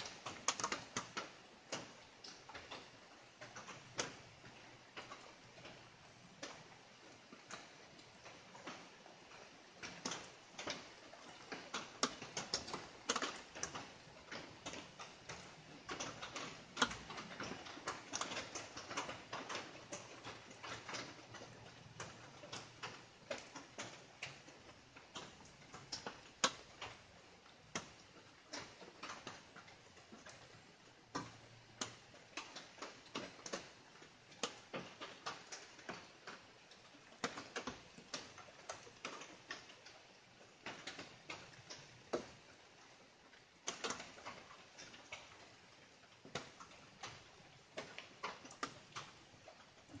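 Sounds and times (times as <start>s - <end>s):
light rain drops tapping: 0.0s - 50.0s.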